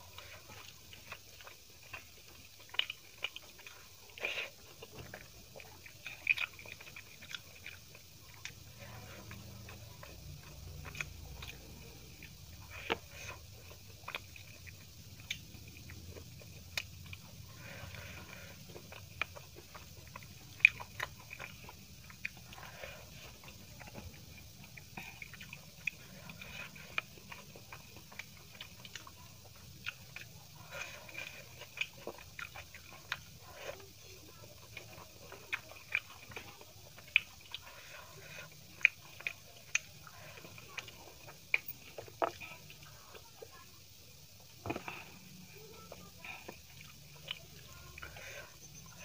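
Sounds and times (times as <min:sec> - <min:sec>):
chewing food: 0:00.0 - 0:49.0
faint steady hiss: 0:00.0 - 0:49.0.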